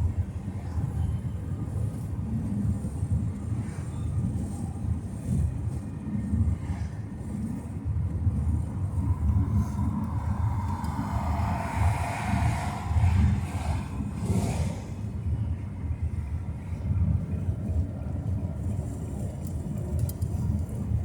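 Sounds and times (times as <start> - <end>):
road and wind noise inside car: 0.0 - 21.0
wind buffeting microphone: 0.0 - 21.0.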